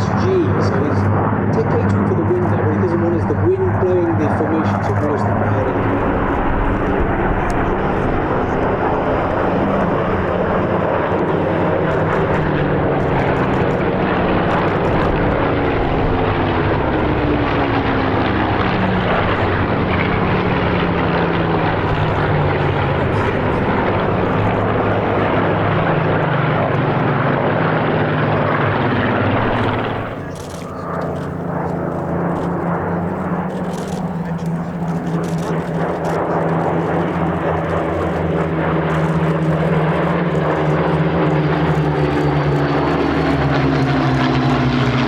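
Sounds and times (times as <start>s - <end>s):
propeller aircraft engines droning: 0.0s - 45.0s.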